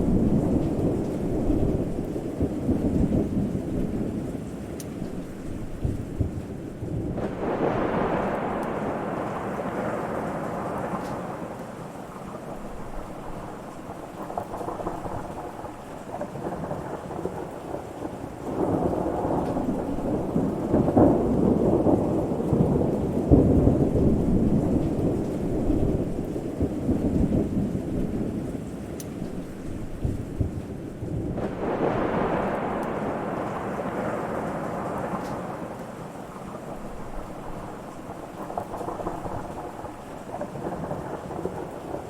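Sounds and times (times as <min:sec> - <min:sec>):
steady rain: 0:00.0 - 0:42.0
thunder rumbling: 0:00.0 - 0:42.0.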